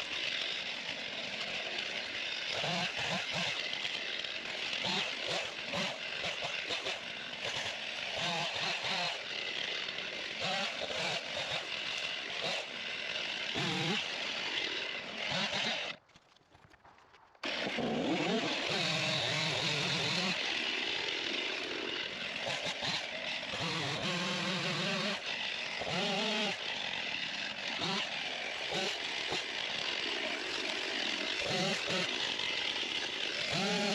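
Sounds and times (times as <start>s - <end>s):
chainsaw running and revving: 0.0s - 16.0s, 17.4s - 33.9s.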